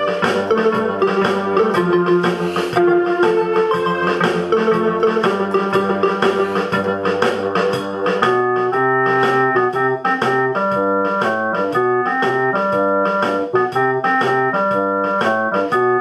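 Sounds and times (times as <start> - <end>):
lively organ keyboard tune: 0.0 - 16.0
moving bass line: 0.0 - 16.0.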